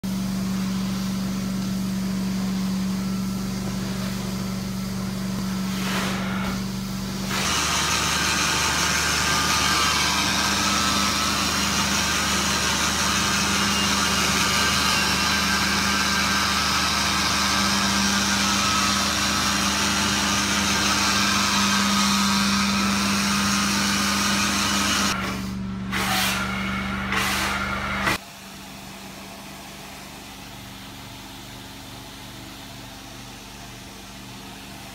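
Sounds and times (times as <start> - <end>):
carpet cleaning machine humming: 0.0 - 34.9.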